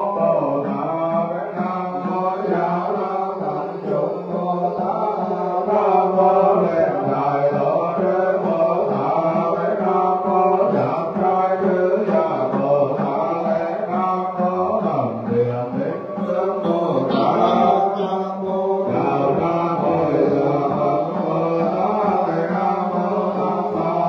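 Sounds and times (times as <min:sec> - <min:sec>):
monks chanting: 0:00.0 - 0:24.0.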